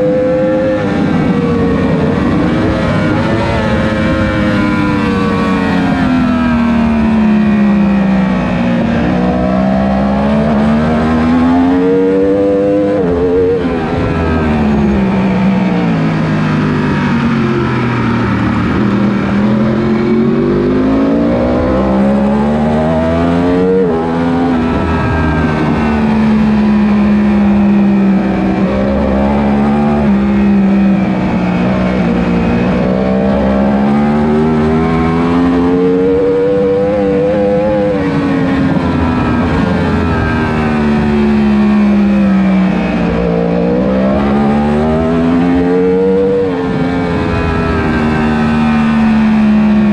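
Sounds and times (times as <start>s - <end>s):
racing motorcycle engine: 0.0s - 49.9s.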